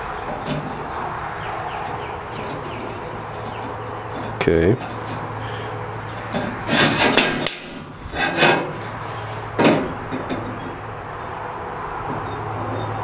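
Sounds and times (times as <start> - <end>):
metal scraping on steel table: 1.8 - 13.0.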